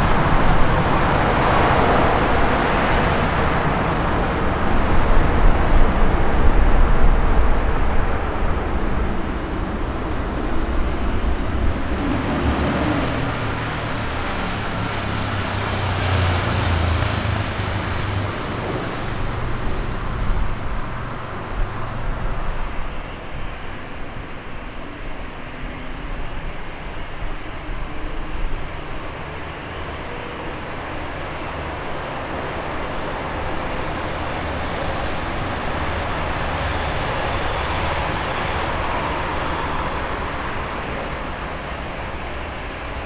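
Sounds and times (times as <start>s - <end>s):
jet engines rumbling: 0.0s - 43.0s.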